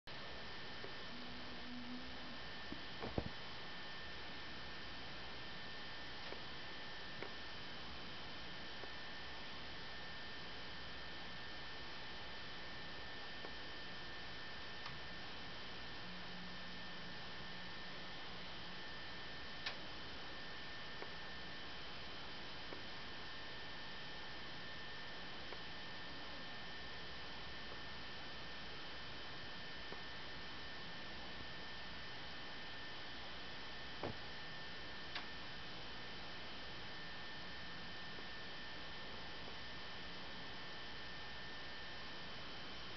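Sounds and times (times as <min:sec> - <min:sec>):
electrical hum and hiss: 0:00.1 - 0:42.9.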